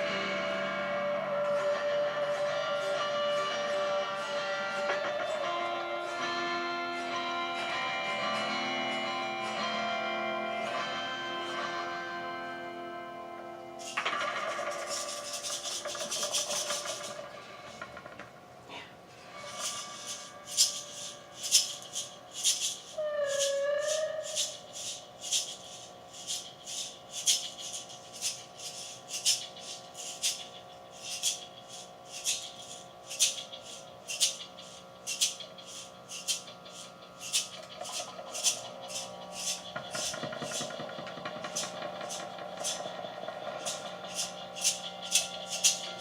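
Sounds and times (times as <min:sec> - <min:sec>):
rhythmic shaker-like scraping: 0:00.0 - 0:12.3, 0:13.7 - 0:46.0
buzzy tone: 0:00.0 - 0:18.3, 0:19.1 - 0:46.0
wavering tone: 0:00.0 - 0:18.4, 0:19.1 - 0:46.0
sustained droning tones: 0:00.0 - 0:46.0.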